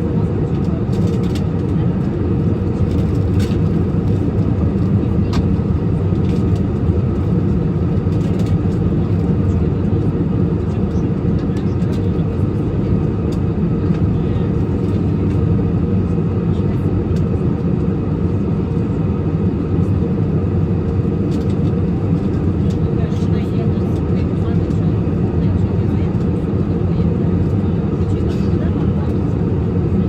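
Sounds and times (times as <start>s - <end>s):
airliner cabin engine drone: 0.0s - 30.0s.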